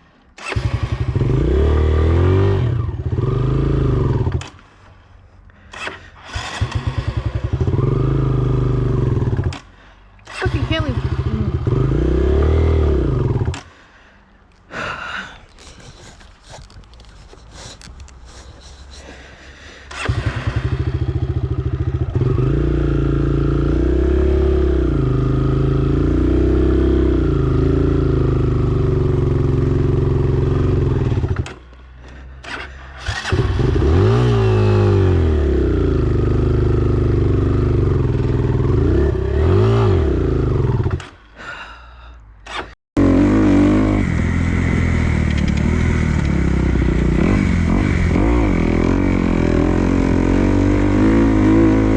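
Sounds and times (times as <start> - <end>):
dirt bike engine revving: 0.4 - 4.6, 5.7 - 13.7, 19.9 - 41.2, 42.5 - 51.9.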